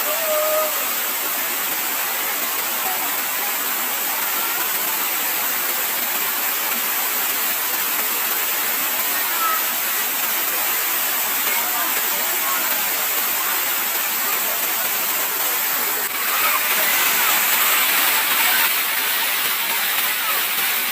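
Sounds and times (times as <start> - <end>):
waterfall roaring: 0.0 - 20.9.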